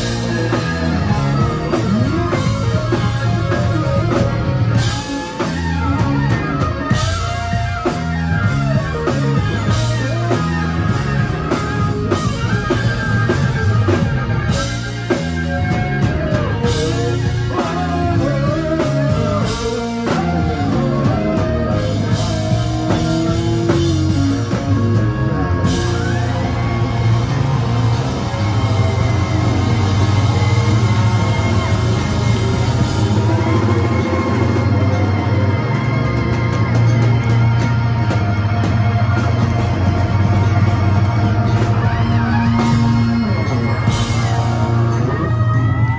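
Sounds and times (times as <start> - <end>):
bass guitar: 0.0 - 45.9
drum kit: 0.0 - 45.9
electric guitar lead: 0.0 - 45.9
keyboards: 0.0 - 45.9.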